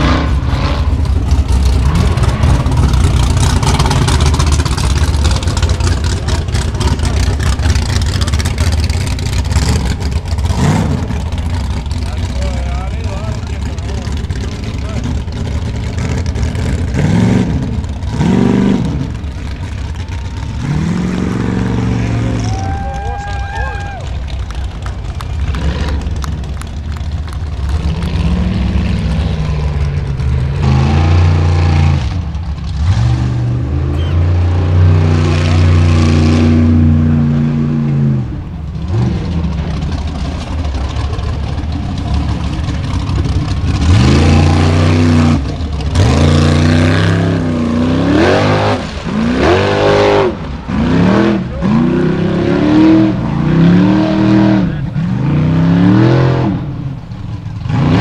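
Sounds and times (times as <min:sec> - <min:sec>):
buggy engines revving hard: 0:00.0 - 0:58.0.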